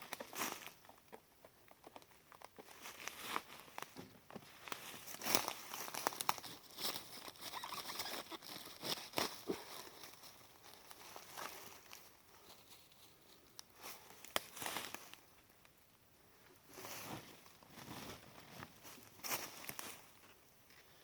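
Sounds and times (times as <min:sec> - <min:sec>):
rustling of dry leaves and twigs: 0:00.0 - 0:21.0.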